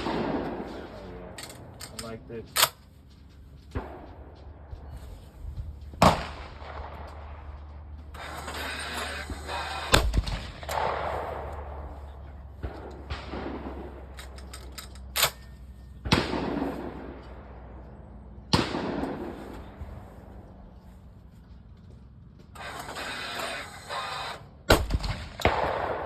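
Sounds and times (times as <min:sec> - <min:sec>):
echoing gunshots: 0:00.0 - 0:02.8, 0:03.6 - 0:15.4, 0:16.0 - 0:20.6, 0:22.6 - 0:26.0.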